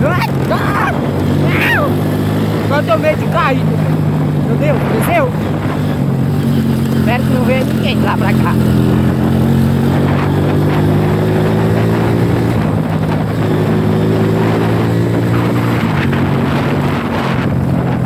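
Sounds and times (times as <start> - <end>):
motorcycle engine running: 0.0 - 18.0
steady rushing noise: 0.0 - 18.0.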